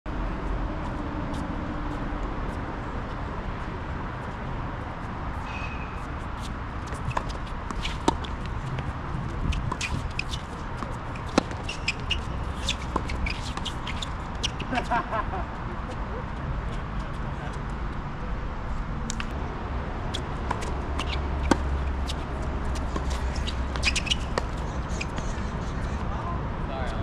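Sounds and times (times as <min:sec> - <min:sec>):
outdoor background noise: 0:00.1 - 0:27.0.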